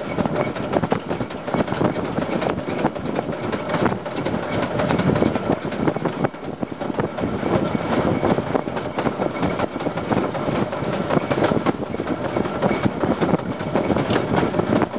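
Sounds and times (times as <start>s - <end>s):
train wheels clattering on track: 0.0s - 14.9s.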